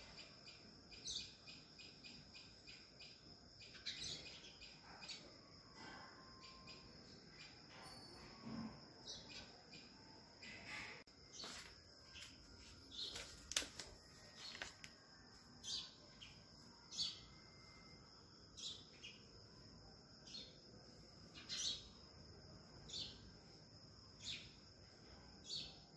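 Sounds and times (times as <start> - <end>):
faint bird chirps: 0.0 - 13.3, 14.0 - 25.9.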